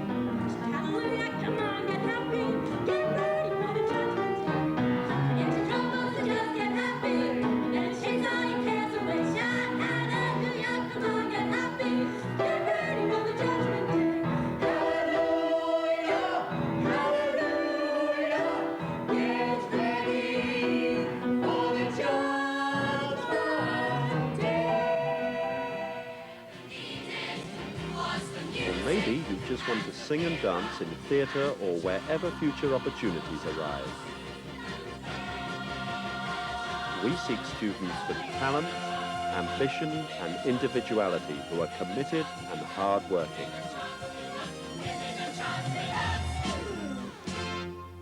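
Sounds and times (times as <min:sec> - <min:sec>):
group of voices singing in chorus: 0:00.0 - 0:47.3
instrumental accompaniment: 0:00.0 - 0:48.0.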